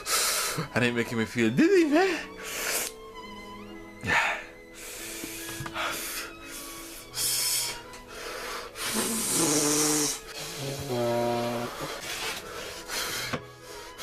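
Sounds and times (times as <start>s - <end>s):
man breathing hard: 0.0s - 0.7s, 2.2s - 3.0s, 4.0s - 14.0s.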